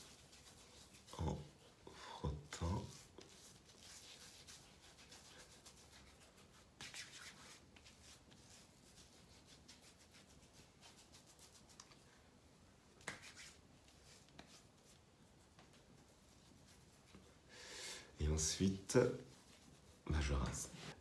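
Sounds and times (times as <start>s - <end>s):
hands lathering a wet beard: 0.0s - 12.2s, 13.0s - 17.5s, 18.3s - 21.0s.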